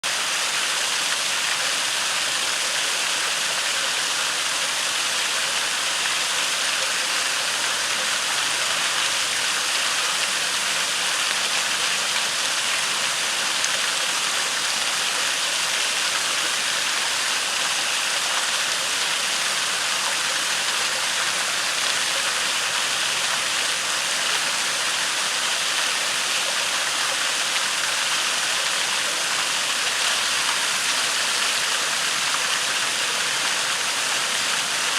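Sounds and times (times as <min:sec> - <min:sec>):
waterfall rushing into pool: 0:00.0 - 0:34.9.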